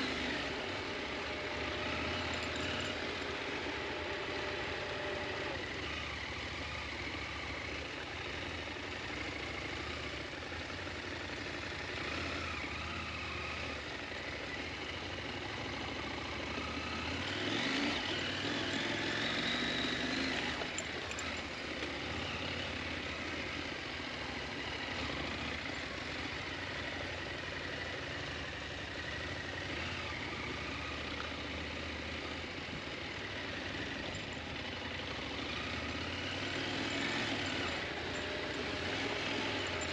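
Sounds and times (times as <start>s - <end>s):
motorcycle engine at low revs: 0.0s - 39.9s.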